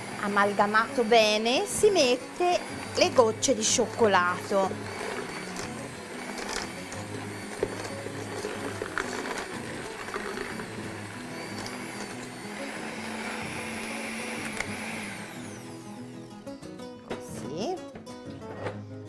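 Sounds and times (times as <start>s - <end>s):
electric mixer motor hum: 0.0s - 16.5s.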